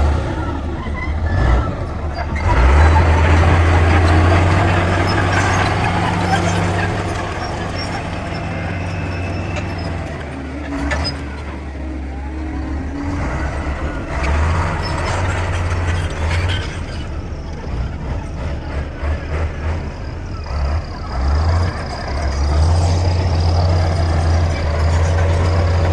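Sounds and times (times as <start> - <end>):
bulldozer diesel engine: 0.0 - 25.9.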